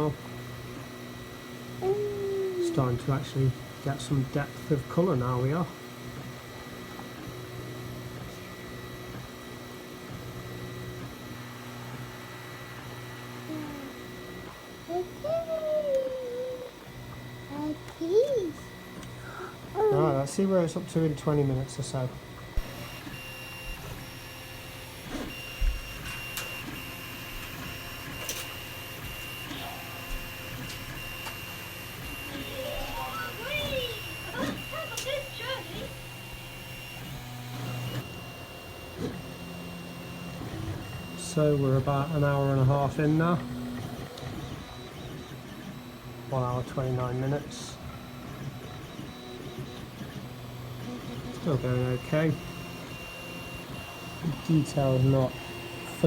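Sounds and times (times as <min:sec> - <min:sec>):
stepper motors humming: 0:00.0 - 0:56.0.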